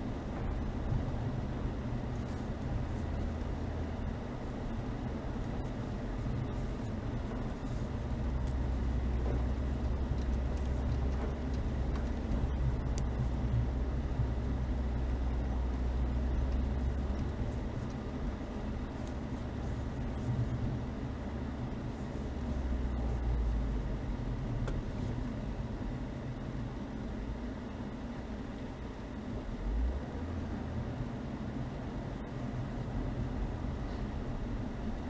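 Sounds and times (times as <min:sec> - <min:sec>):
car engine and drivetrain drone: 0:00.0 - 0:35.0.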